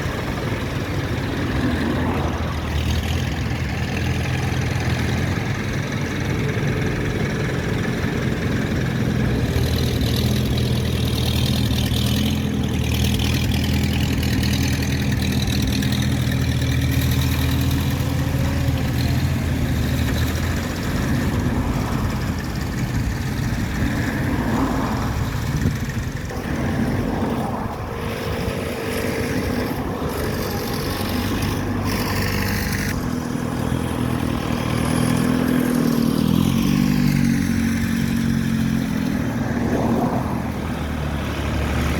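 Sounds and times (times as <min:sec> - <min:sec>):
low steady engine note: 0:00.0 - 0:41.9
tractor engines driving past: 0:00.0 - 0:41.9.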